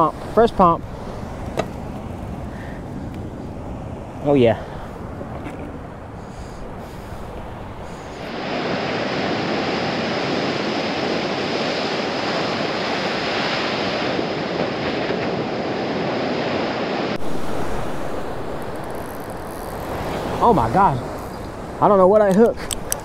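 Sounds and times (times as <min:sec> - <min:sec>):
ocean surf breaking: 0:00.0 - 0:23.0
wind on microphone: 0:00.0 - 0:23.0.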